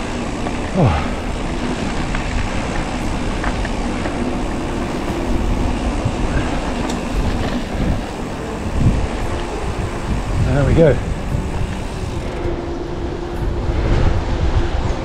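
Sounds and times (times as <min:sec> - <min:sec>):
bike tyres rolling on gravel: 0:00.0 - 0:15.0
wind rumble on microphone: 0:00.0 - 0:15.0.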